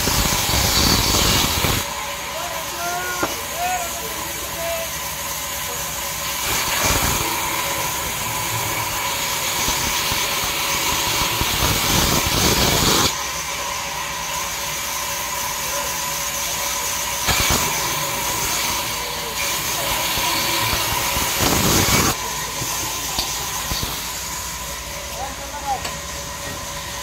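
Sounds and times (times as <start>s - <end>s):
band saw cutting wood: 0.0s - 27.0s.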